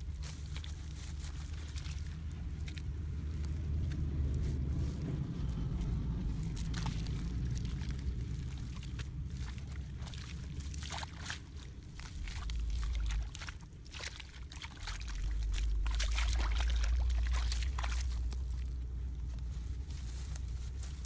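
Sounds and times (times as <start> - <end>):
soil clods crumbling: 0.0 - 21.0
steady low rumble: 0.0 - 21.0.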